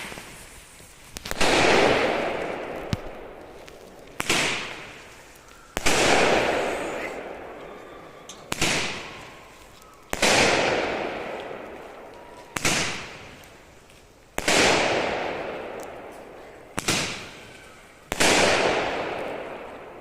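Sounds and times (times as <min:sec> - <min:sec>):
firework bangs with echo: 0:01.2 - 0:09.5, 0:10.1 - 0:13.4, 0:14.4 - 0:20.0.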